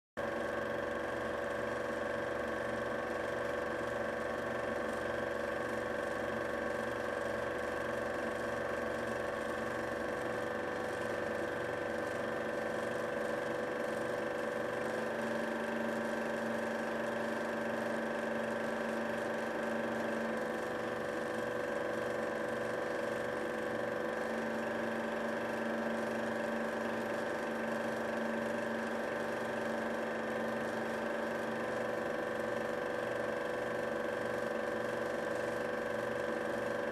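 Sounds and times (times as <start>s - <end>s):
film projector whirring: 0.2s - 36.9s.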